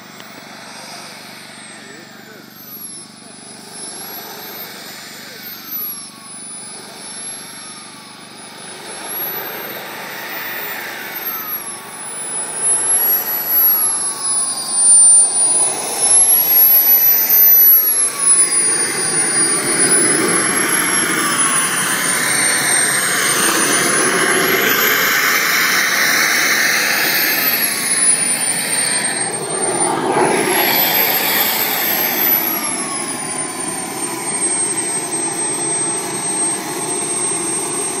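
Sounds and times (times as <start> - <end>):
jet turbine whine: 0.0 - 38.0
rushing exhaust noise: 0.0 - 38.0.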